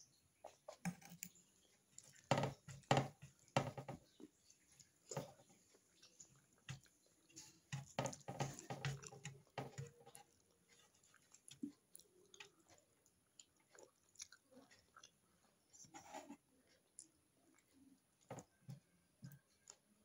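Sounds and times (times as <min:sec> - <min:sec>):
close-up chewing: 0:00.4 - 0:20.0.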